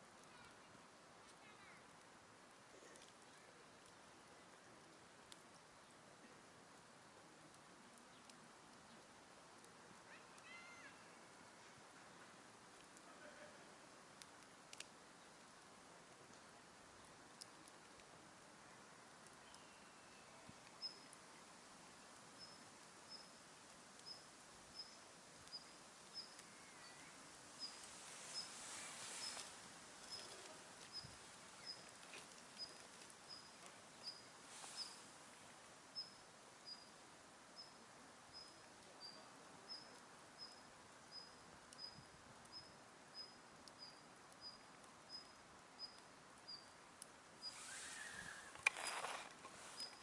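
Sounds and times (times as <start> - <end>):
campfire crackles: 0.0 - 50.0.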